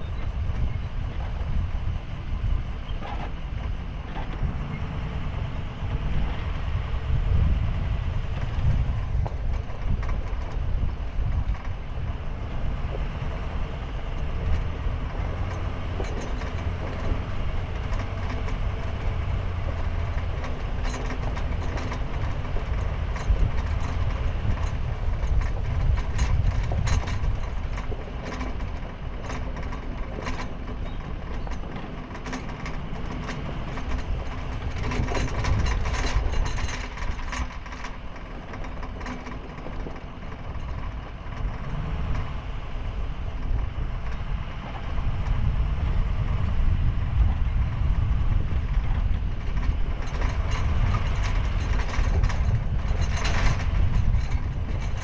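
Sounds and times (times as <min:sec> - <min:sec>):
engine and tyres rumbling: 0:00.0 - 0:55.0.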